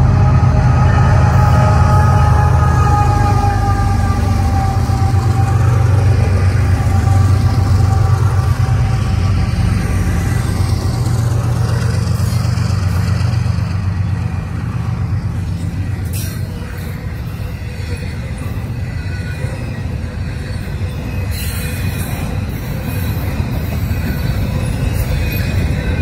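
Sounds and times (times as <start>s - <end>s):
diesel locomotive engine rumble: 0.0s - 26.0s
locomotive whine: 0.0s - 26.0s.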